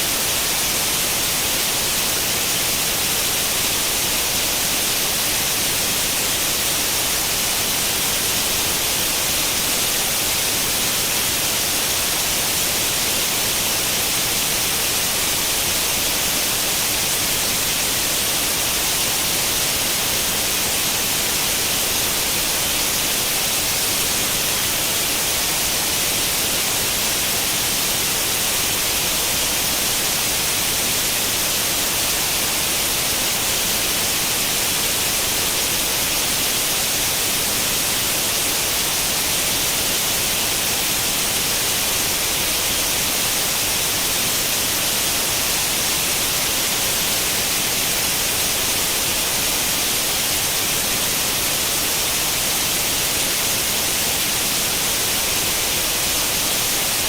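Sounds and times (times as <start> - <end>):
white noise static hiss: 0.0 - 57.0.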